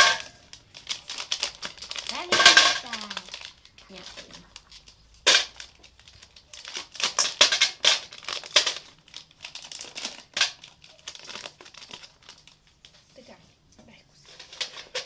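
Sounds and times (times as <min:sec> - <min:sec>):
chocolate bar breaking: 0:00.0 - 0:12.6
wrapper crinkling: 0:00.0 - 0:13.1.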